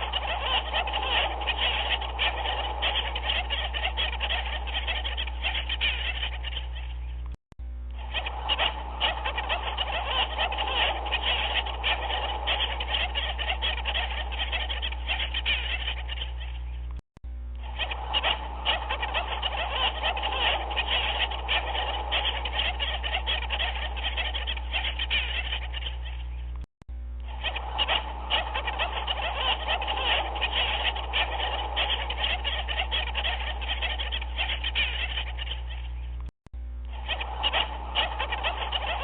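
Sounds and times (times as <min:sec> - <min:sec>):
chorus of animal calls: 0:00.0 - 0:07.3, 0:08.0 - 0:16.9, 0:17.6 - 0:26.6, 0:27.2 - 0:36.2, 0:36.8 - 0:39.0.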